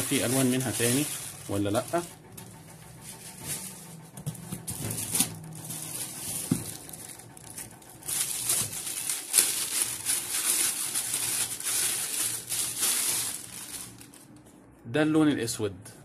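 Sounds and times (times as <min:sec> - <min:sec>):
plastic wrapping crinkling: 0:00.0 - 0:14.5.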